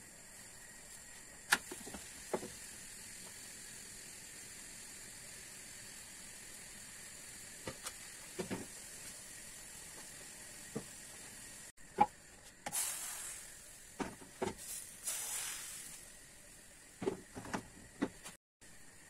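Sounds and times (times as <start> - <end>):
batter sizzling in hot pans: 0.0 - 11.8, 12.5 - 19.0
steady frying hiss: 0.0 - 19.0.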